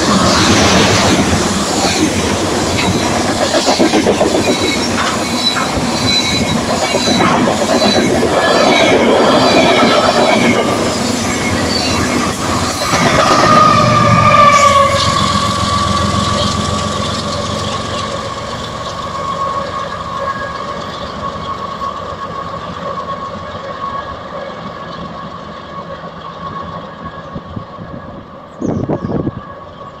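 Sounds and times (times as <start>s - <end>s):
locomotive engine rumble: 0.0s - 30.0s
train wheel clatter: 0.0s - 30.0s.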